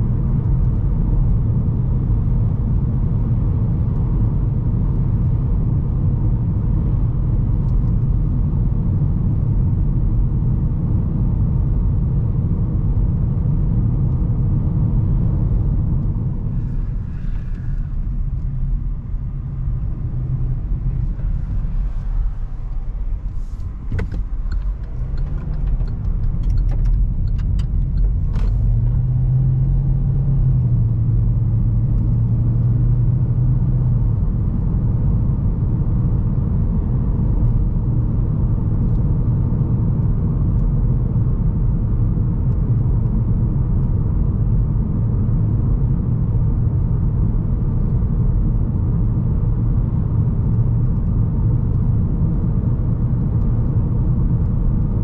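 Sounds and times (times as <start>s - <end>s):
car engine drone: 0.0s - 55.0s
road and tyre rumble: 0.0s - 55.0s.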